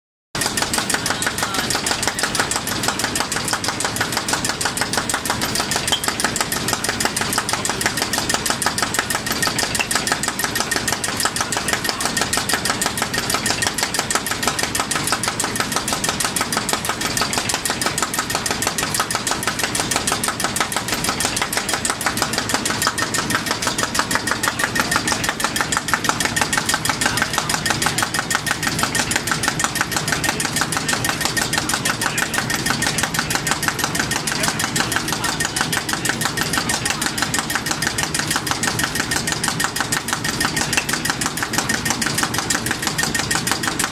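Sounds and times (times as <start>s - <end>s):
molding machine mechanical clatter: 0.4s - 43.9s.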